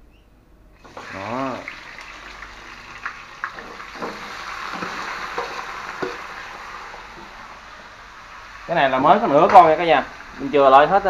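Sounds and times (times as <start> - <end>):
meat sizzling in a hot wok: 0.8 - 11.0.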